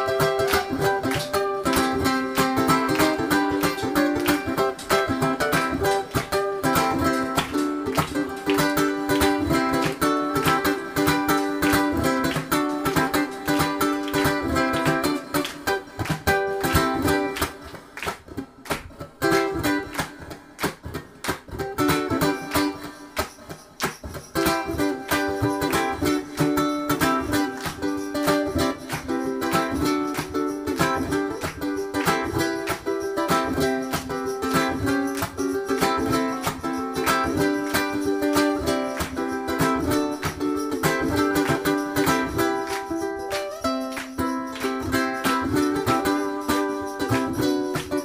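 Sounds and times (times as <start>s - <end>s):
ukulele music: 0.0s - 48.0s.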